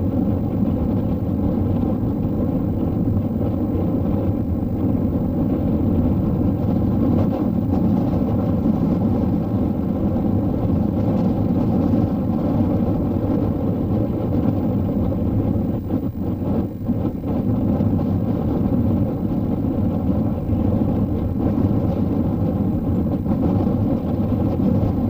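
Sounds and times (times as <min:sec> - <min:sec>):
train running with low rumble: 0:00.0 - 0:25.0.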